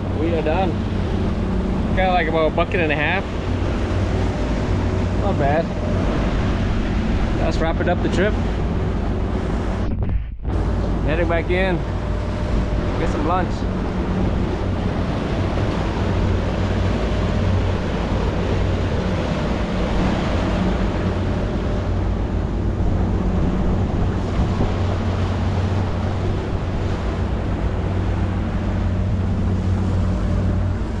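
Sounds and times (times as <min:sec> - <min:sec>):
boat engine droning: 0:00.0 - 0:31.0
wind buffeting microphone: 0:00.0 - 0:31.0.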